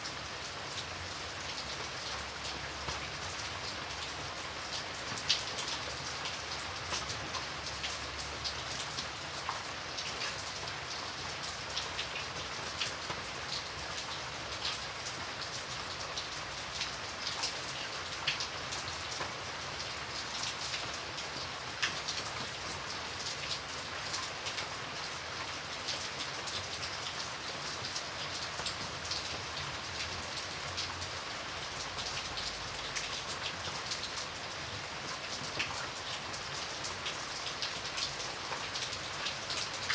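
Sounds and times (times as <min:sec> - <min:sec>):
raindrops clicking close by: 0:00.2 - 0:39.9.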